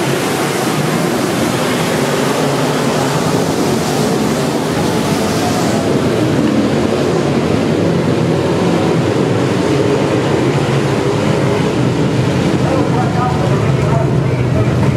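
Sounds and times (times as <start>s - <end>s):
race car engines: 0.0s - 14.9s.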